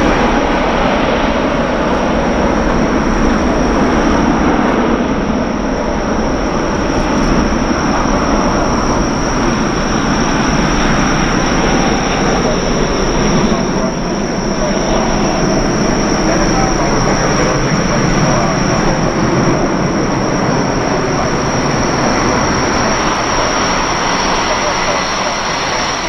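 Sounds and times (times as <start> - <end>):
jet engine high whine: 0.0 - 26.0
jet engines roaring: 0.0 - 26.0.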